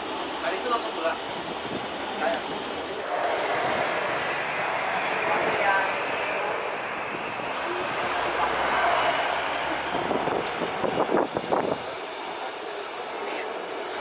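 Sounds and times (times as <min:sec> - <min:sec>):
jet engines running: 0:00.0 - 0:13.9.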